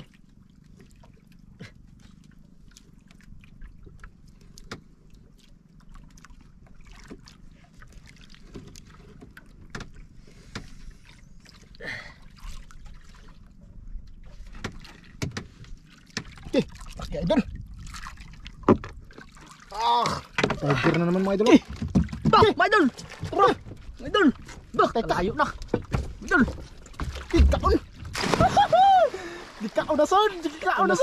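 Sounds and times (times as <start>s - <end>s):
water lapping against boat hull: 0.0s - 31.0s.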